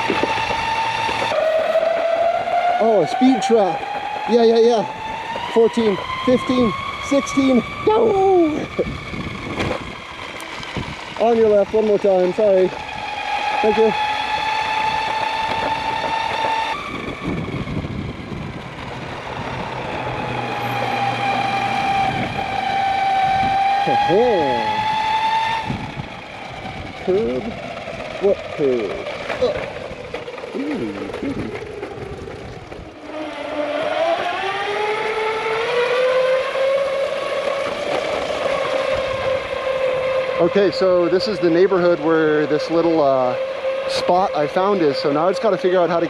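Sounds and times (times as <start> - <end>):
electric motor high whine: 0.0 - 46.0
wheel and wind rumble: 0.0 - 46.0.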